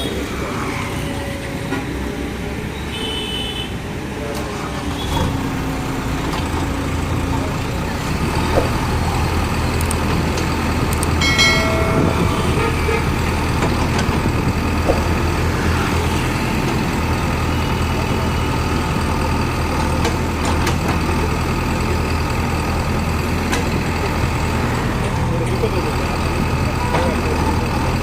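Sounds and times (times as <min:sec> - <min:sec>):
diesel engine running: 0:03.8 - 0:28.0.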